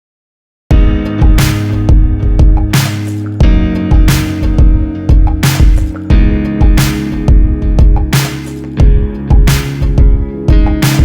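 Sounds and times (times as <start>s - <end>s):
loud music with drum beat: 0.7s - 11.0s.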